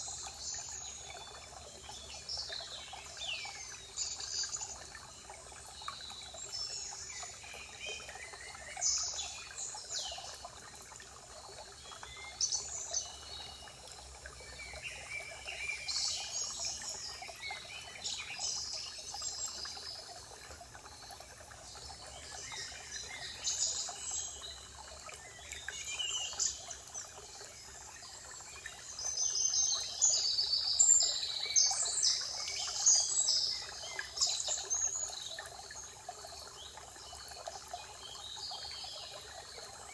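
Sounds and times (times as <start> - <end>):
trickle of running water: 0.0 - 39.9.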